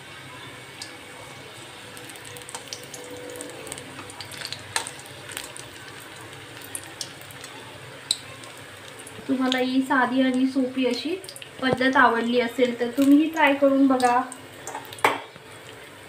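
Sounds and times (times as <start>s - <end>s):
hot oil sizzling: 0.0s - 16.0s
oil popping and crackling: 2.0s - 15.9s.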